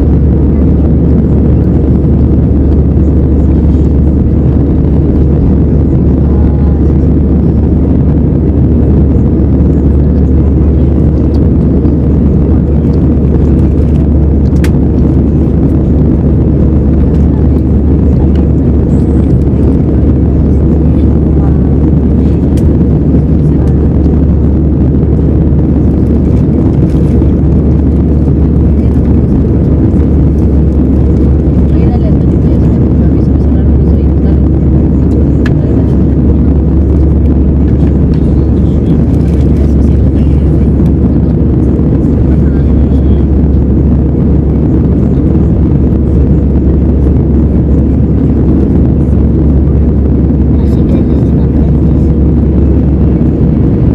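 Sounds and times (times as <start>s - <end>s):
airplane engines rumbling in cabin: 0.0s - 53.9s.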